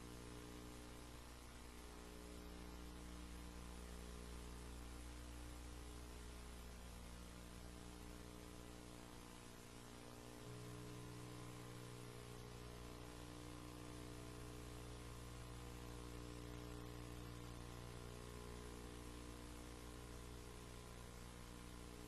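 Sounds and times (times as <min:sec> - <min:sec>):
background hiss: 0:00.0 - 0:22.0
faint electrical mains hum: 0:00.0 - 0:22.0.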